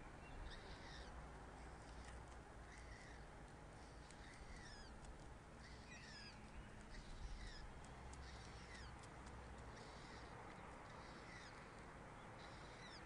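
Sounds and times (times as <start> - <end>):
faint bird chirps: 0.0 - 9.1, 9.7 - 13.0.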